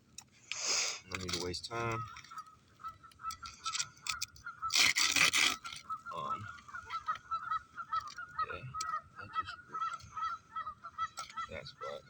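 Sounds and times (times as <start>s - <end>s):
geese honking: 0.8s - 12.0s.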